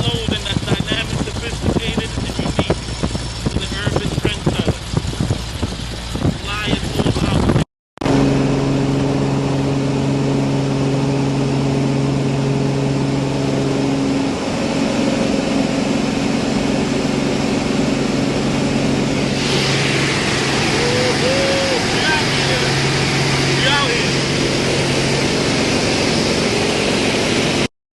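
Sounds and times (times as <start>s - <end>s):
propeller engine droning: 0.0s - 27.7s.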